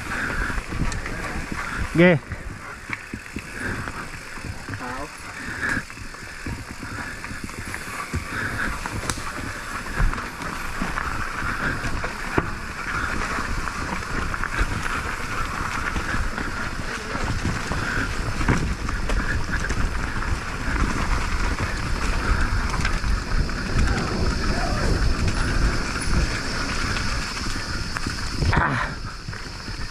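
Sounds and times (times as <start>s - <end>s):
wind and tyre noise: 0.0s - 29.9s.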